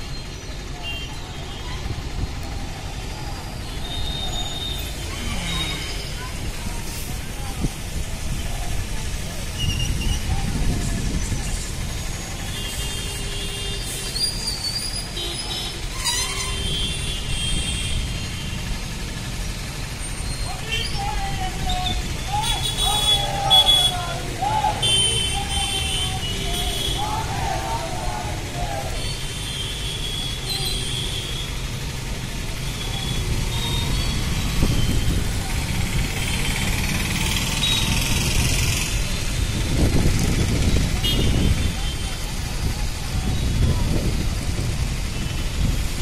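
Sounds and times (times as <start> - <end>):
low street rumble: 0.0 - 46.0.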